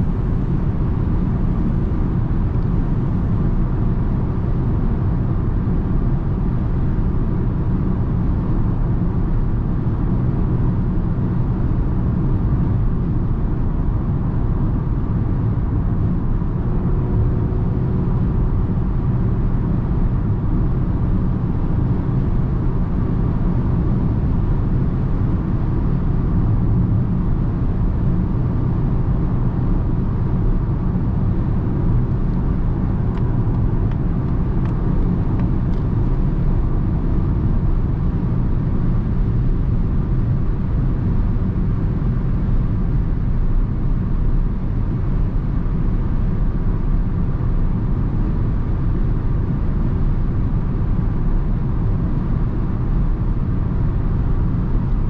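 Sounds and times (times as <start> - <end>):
wind noise inside car: 0.0 - 55.0.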